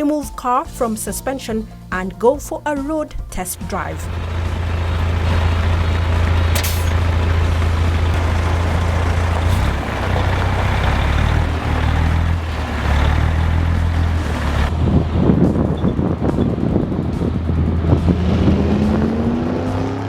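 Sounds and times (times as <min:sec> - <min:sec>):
road and wind noise: 0:02.8 - 0:20.0
engine drone: 0:03.4 - 0:20.0.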